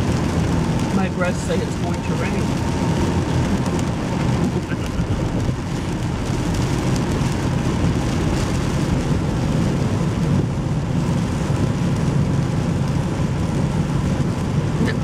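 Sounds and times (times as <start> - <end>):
car driving rumble: 0.0 - 15.0
rain and wet road hiss: 0.0 - 15.0.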